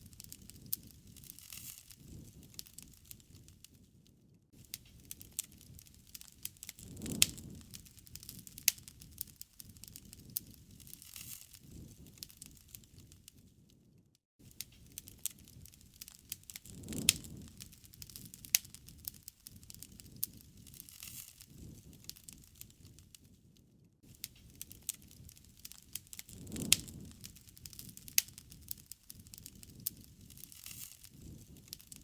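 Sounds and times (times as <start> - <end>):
campfire crackling and popping: 0.0 - 13.8, 14.4 - 32.0
low rumble of flames: 0.0 - 32.0.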